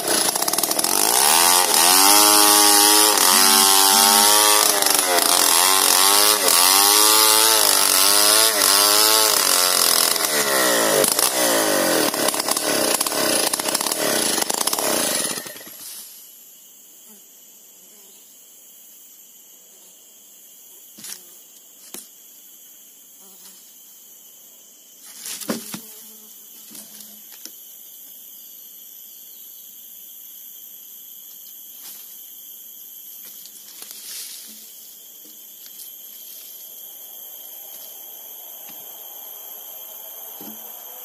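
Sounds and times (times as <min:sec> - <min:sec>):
forest insects droning: 0:00.0 - 0:41.0.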